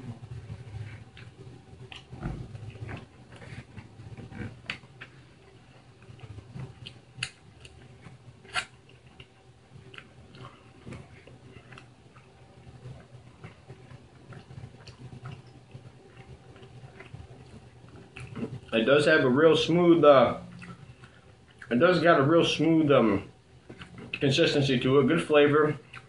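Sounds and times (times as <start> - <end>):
man chewing food: 0.0 - 26.0.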